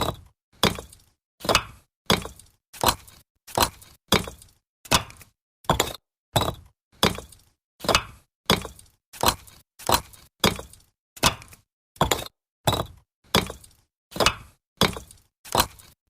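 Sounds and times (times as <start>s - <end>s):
bricks clacking while stacked: 0.0s - 16.0s.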